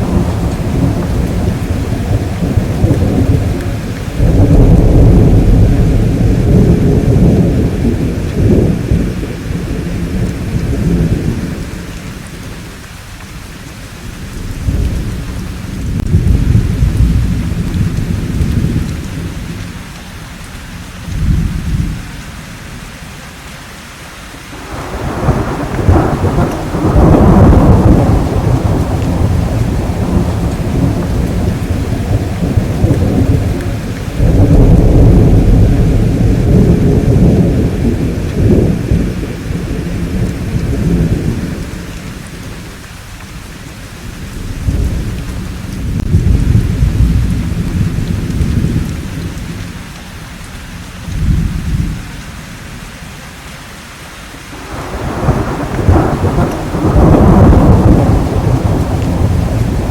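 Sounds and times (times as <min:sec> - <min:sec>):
rolling thunder: 0:00.0 - 0:12.7, 0:14.0 - 0:19.9, 0:20.8 - 0:22.2, 0:24.6 - 0:50.0, 0:50.6 - 0:52.2, 0:54.6 - 0:59.9
steady rainfall: 0:00.0 - 0:59.9.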